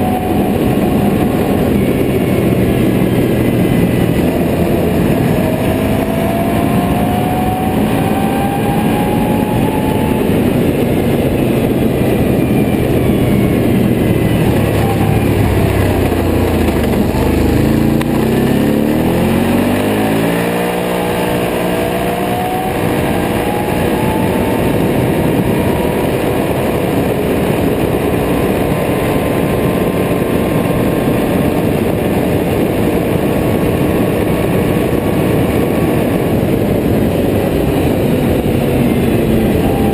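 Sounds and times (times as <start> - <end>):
atv engine accelerating: 0.0 - 39.9.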